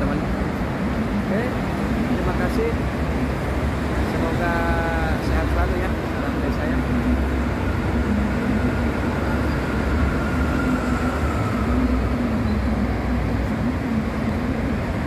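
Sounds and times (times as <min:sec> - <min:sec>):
highway traffic rumble: 0:00.0 - 0:15.0.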